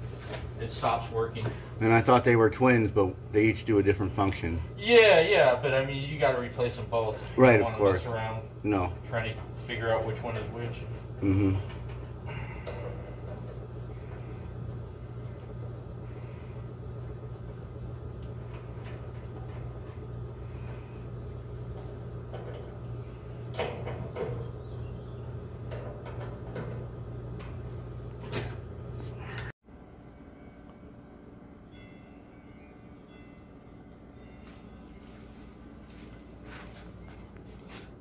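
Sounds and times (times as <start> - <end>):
low hum: 5.6 - 37.7.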